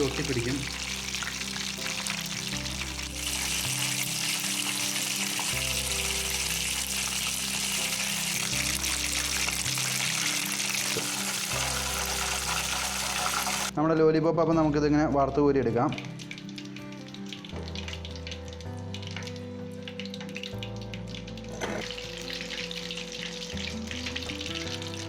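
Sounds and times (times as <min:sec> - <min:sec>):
chicken sizzling in hot oil: 0:00.0 - 0:13.7, 0:16.0 - 0:25.0.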